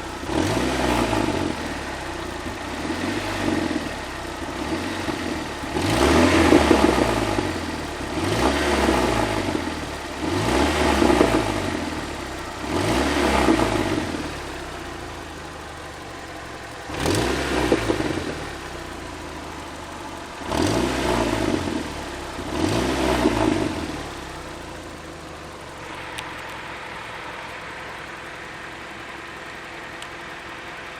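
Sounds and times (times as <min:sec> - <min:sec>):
car engine idling: 0:00.0 - 0:30.9
car engine revving: 0:00.0 - 0:30.9
engine knocking: 0:00.0 - 0:30.9.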